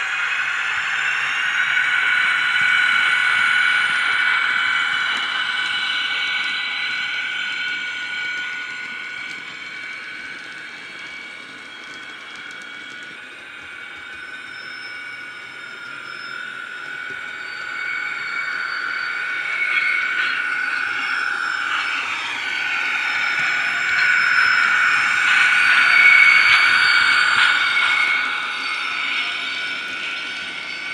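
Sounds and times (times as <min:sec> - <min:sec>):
model locomotive motor whine: 0:00.0 - 0:30.9.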